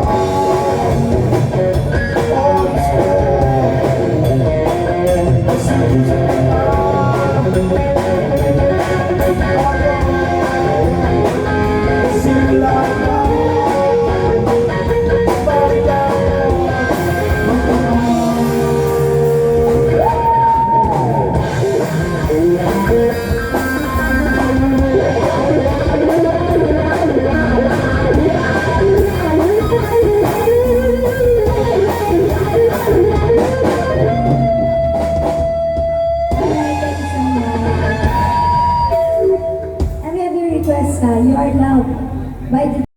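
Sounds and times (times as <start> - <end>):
electric guitar lead melody: 0.0 - 42.8
rock accompaniment: 0.0 - 42.8.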